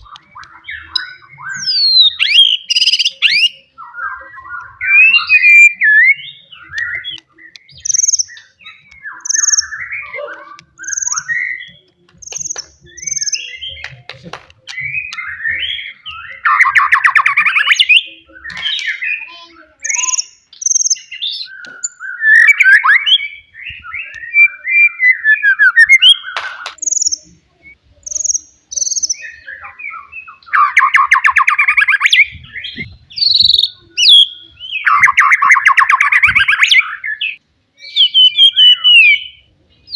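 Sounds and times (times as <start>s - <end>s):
bird singing whistled phrases: 0.0s - 13.8s, 14.7s - 39.9s.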